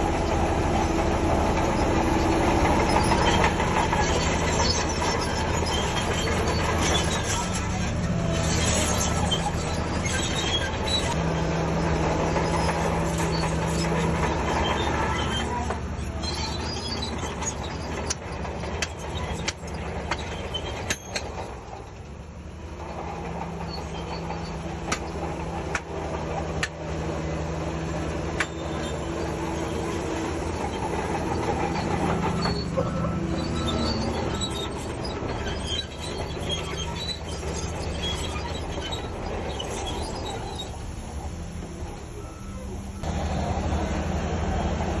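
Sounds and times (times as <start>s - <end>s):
bulldozer diesel engine: 0.0s - 45.0s
steel tracks squealing and clanking: 0.0s - 45.0s.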